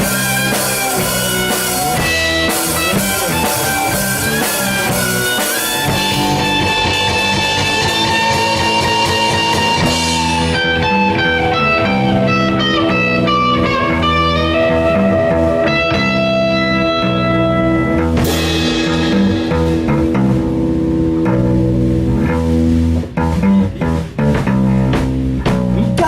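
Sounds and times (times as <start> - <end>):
bass and drums: 0.0 - 26.0
lead guitar bending notes: 0.0 - 26.0.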